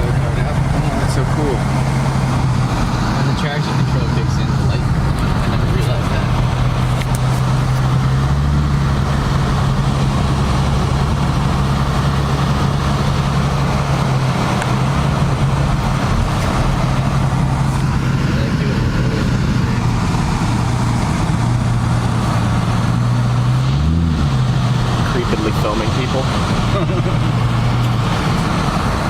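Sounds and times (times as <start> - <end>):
car engine drone: 0.0 - 29.0
road and tyre noise: 0.0 - 29.0.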